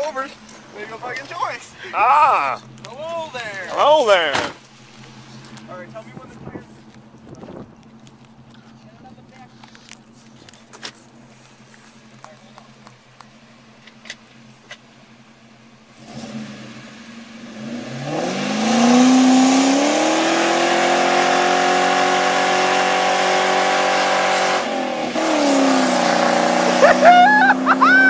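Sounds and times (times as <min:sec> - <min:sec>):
car engine revving: 0:00.0 - 0:08.8, 0:09.6 - 0:28.0.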